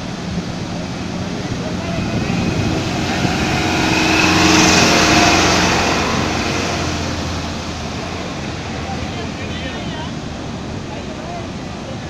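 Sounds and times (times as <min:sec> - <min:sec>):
truck engine running: 0:00.0 - 0:12.0
wheels churning water spray: 0:00.0 - 0:12.0.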